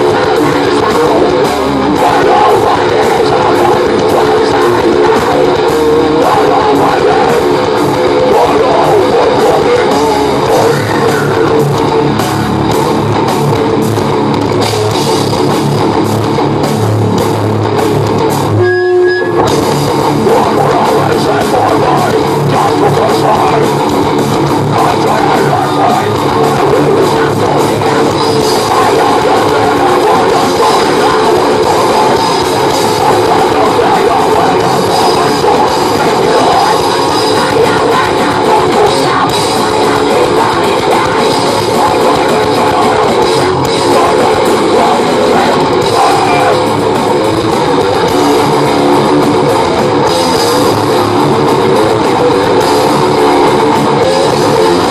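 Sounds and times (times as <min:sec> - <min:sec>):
bass guitar: 0:00.0 - 0:54.9
distorted electric guitars: 0:00.0 - 0:54.9
drum kit: 0:00.0 - 0:54.9.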